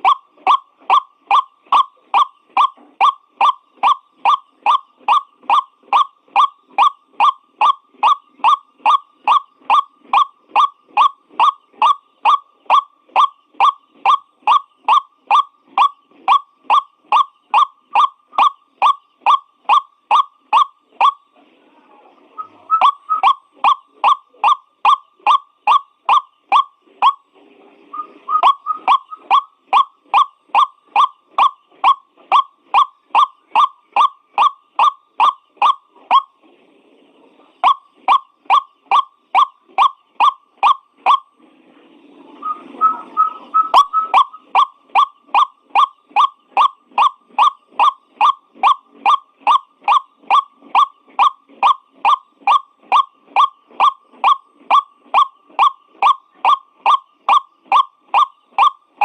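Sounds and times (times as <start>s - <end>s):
waterhen calling harsh notes: 0.0s - 21.2s, 22.4s - 27.2s, 27.9s - 36.3s, 37.6s - 41.3s, 42.4s - 59.0s
overlapping bird calls: 0.0s - 59.0s.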